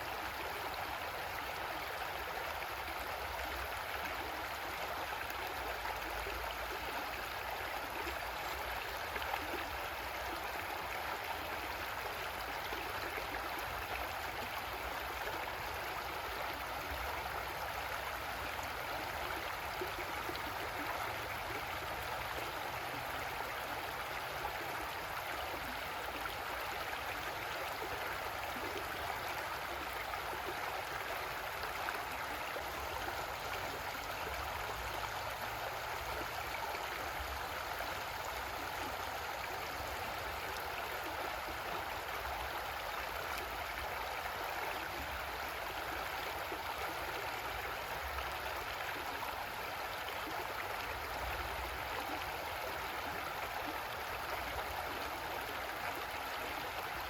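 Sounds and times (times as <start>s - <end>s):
creek water babbling over rocks: 0.0s - 57.0s.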